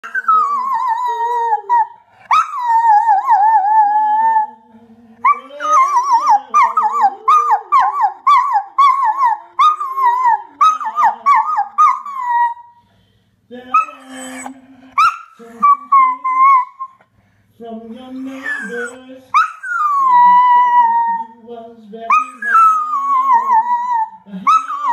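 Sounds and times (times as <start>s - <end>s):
dog howling: 0.0s - 4.6s, 5.3s - 12.7s, 13.7s - 17.0s, 18.2s - 21.4s, 22.1s - 24.9s.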